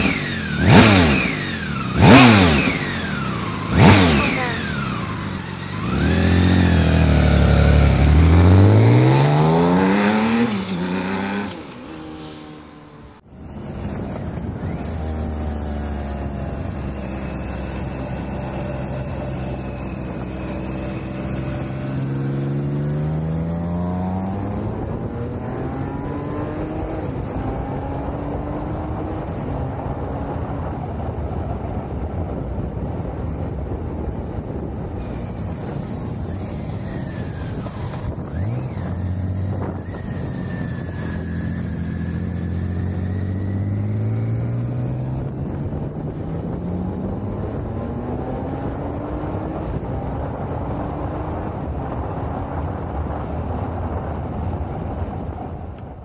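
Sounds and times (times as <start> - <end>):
motorcycle engine accelerating: 0.0 - 56.0
wind rush: 0.2 - 56.0.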